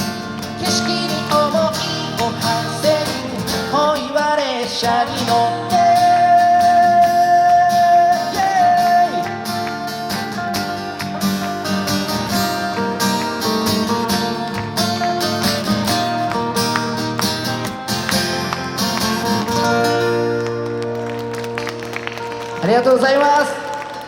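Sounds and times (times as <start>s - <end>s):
acoustic guitars strumming: 0.0s - 24.0s.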